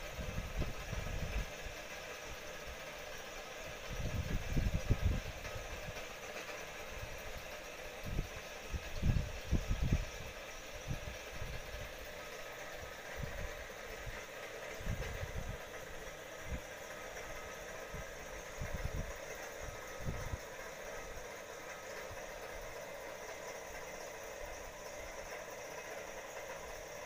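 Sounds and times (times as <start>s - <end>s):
machine whirring: 0.0s - 27.0s.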